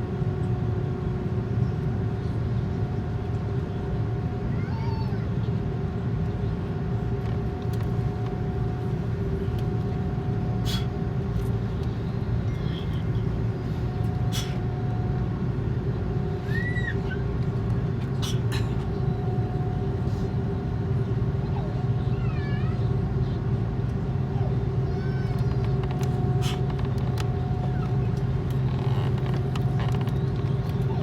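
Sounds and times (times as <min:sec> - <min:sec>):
airliner hum and rumble: 0:00.0 - 0:31.0.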